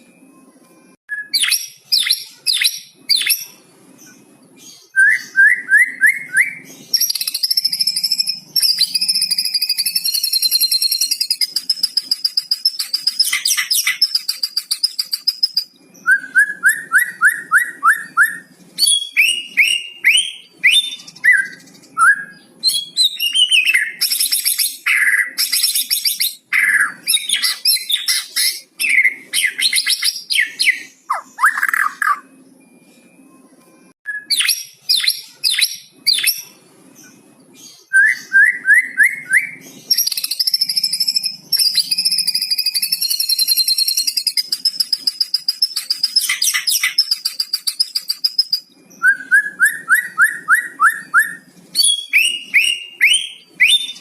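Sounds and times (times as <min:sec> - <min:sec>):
songbird singing varied song: 0:04.7 - 0:32.4, 0:37.1 - 0:54.0.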